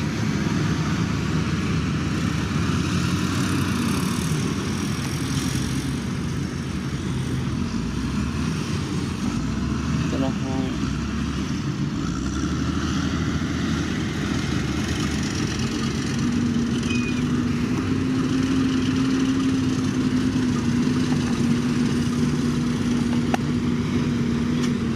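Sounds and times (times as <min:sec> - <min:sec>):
heavy diesel engine droning: 0:00.0 - 0:24.9.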